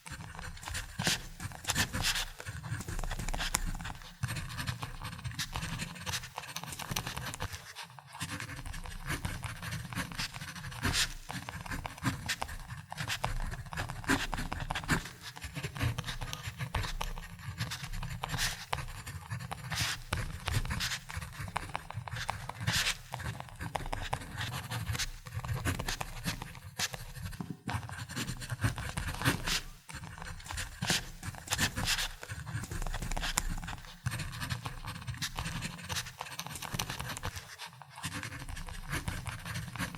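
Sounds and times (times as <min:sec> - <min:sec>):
ballpoint pen writing on paper: 0:00.0 - 0:39.9.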